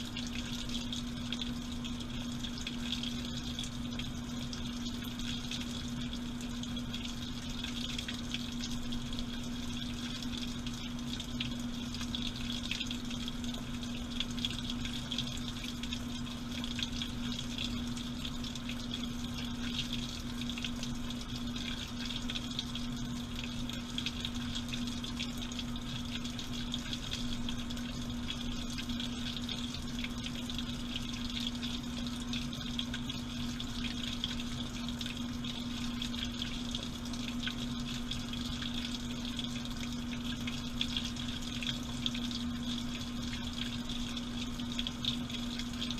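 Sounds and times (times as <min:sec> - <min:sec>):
washing machine hum: 0:00.0 - 0:45.9.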